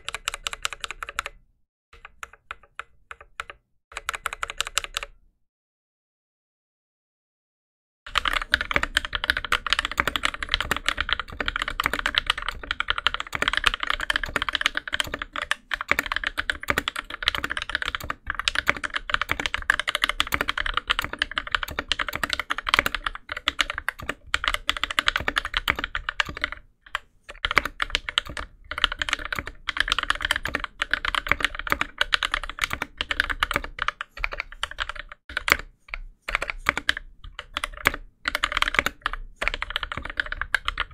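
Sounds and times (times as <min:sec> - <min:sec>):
typing on mechanical keyboard: 0:00.0 - 0:01.4, 0:02.0 - 0:05.2, 0:08.1 - 0:40.9.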